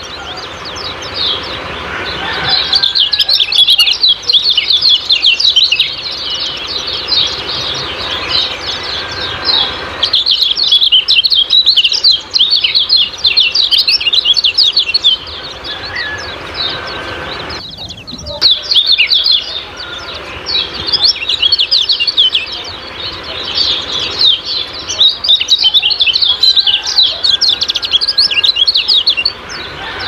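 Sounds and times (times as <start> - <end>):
bird chirping high falling notes: 0.0 - 30.0.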